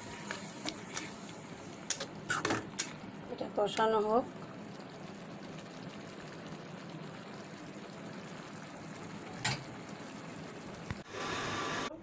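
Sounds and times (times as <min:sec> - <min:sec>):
curry sizzling in a pan: 0:00.0 - 0:11.8.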